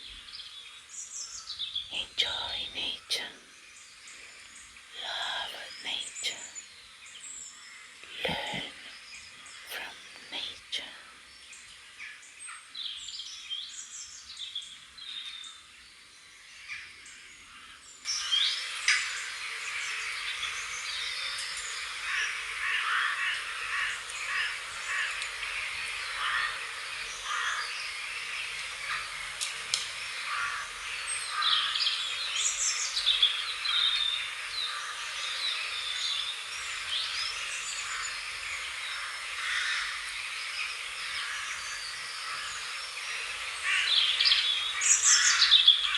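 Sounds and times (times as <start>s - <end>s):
small birds chirping and singing: 0.0s - 22.2s, 23.9s - 45.9s.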